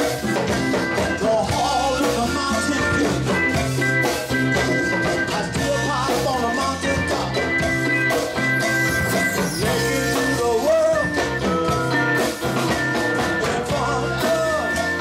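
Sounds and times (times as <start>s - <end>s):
band playing rock song: 0.0s - 15.0s
steady drum beat: 0.0s - 15.0s.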